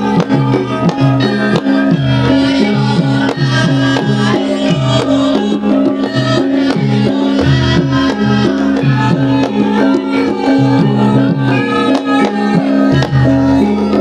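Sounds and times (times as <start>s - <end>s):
traditional drums and pitched percussion: 0.0s - 14.0s.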